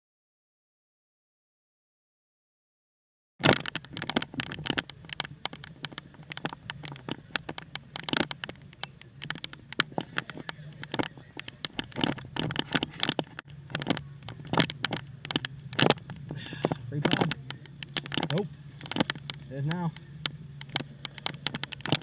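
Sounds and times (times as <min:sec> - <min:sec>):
low steady hum: 0:03.4 - 0:22.0.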